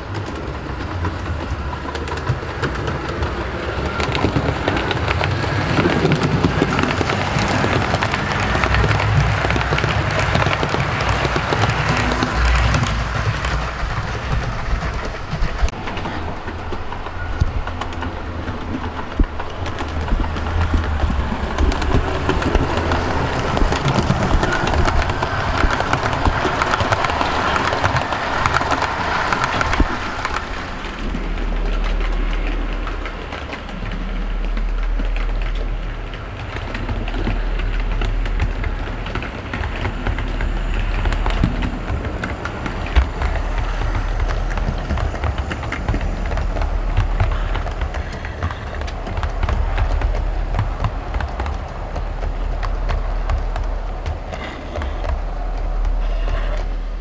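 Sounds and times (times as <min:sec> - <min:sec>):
low rumble: 0:00.0 - 0:57.0
model train wheels clattering on rails: 0:00.0 - 0:57.0.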